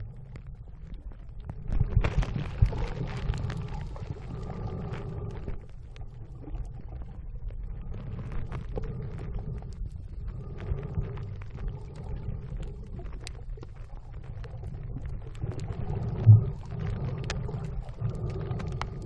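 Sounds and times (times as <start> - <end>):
muffled underwater rumble: 0.0 - 19.0
underwater clicks: 0.0 - 19.0.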